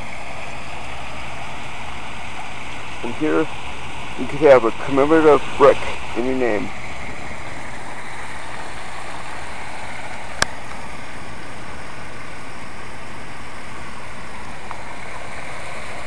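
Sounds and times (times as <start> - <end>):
fountain water rushing: 0.0 - 16.0.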